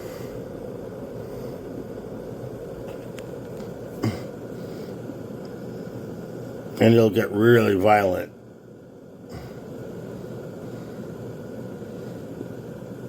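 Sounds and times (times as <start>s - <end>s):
kettle water bubbling: 0.0s - 13.0s.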